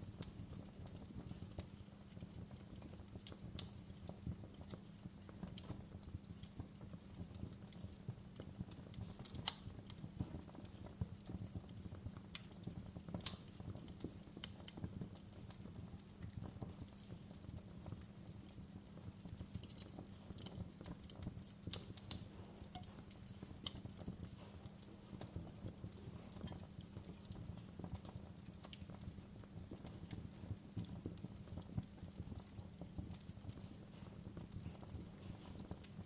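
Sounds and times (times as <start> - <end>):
fire low rumble: 0.0 - 36.0
wood fire crackling: 0.0 - 36.0.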